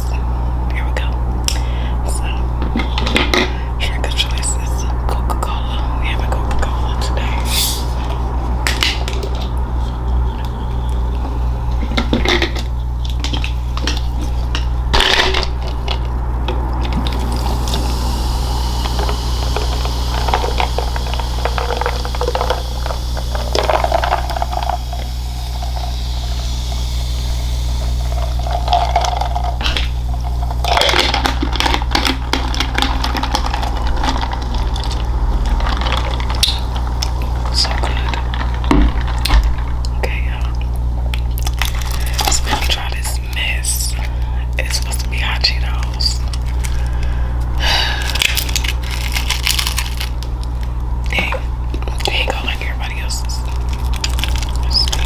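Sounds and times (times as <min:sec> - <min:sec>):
steady low hum: 0:00.0 - 0:55.0
wet chewing and squishing: 0:06.3 - 0:55.0
crisp crunching: 0:07.2 - 0:43.6, 0:44.7 - 0:55.0.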